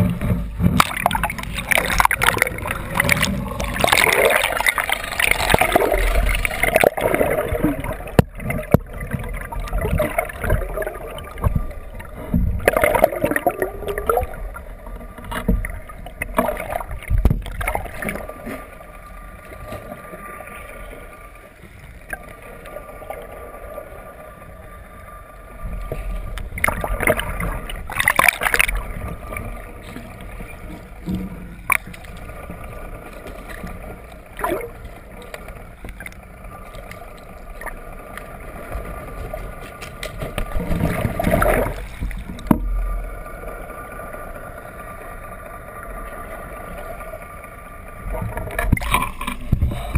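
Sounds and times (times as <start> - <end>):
faint boat hum: 0.0 - 49.9
underwater rushing and bubbling: 0.0 - 49.9.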